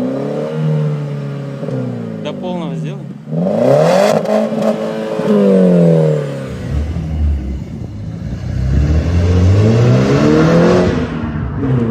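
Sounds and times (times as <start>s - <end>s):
car engine revving: 0.0s - 11.9s.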